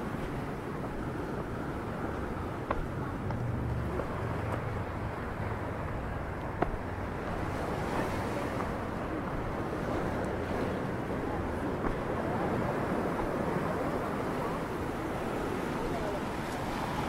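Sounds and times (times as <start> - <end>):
sea washing against rocks: 0.0 - 17.0.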